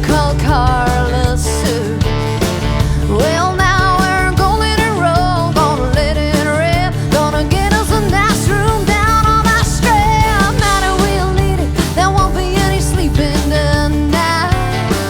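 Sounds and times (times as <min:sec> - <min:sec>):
drum beat: 0:00.0 - 0:15.0
rock and roll band playing: 0:00.0 - 0:15.0.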